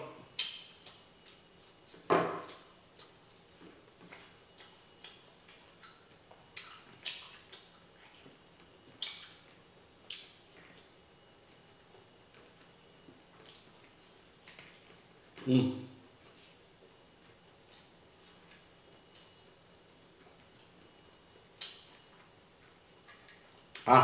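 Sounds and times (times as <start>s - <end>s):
man chewing with lip smacks: 0.3s - 23.9s.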